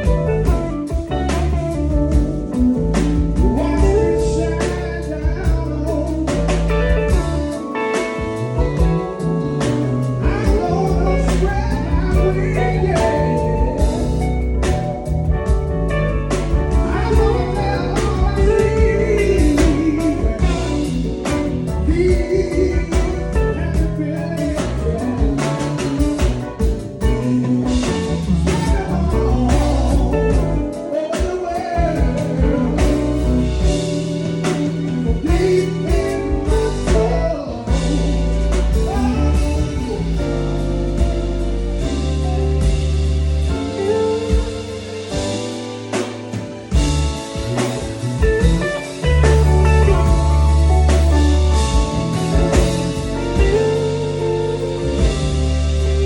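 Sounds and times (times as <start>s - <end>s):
band playing blues: 0.0s - 56.0s
person singing: 2.5s - 15.0s, 16.2s - 42.1s, 48.4s - 56.0s.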